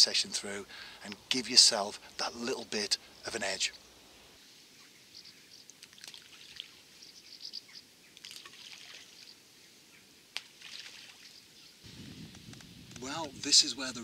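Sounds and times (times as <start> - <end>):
small birds chirping: 0.0 - 13.3
soft outdoor hiss: 0.0 - 14.0.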